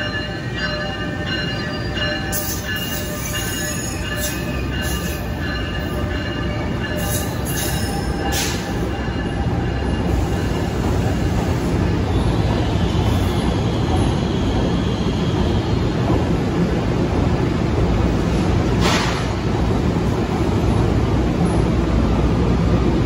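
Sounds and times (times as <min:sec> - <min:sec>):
train coaches rumbling past: 0:00.0 - 0:23.0.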